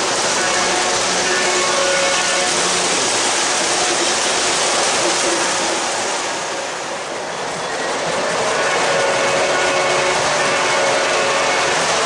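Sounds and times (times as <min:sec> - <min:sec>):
model train wheels rushing: 0:00.0 - 0:12.0.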